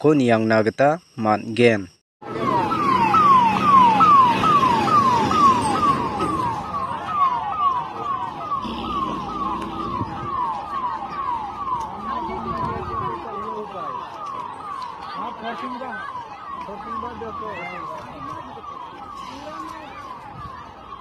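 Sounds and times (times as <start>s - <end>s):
background noise: 0.0s - 21.0s
siren sweeping: 2.2s - 21.0s.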